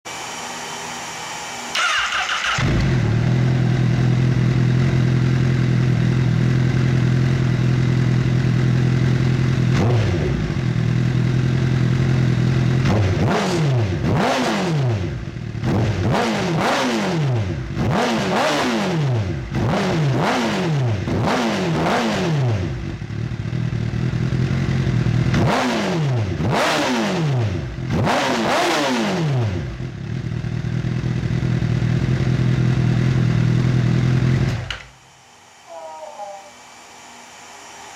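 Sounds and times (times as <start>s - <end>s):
motorcycle engine idling and revving: 1.7s - 35.6s.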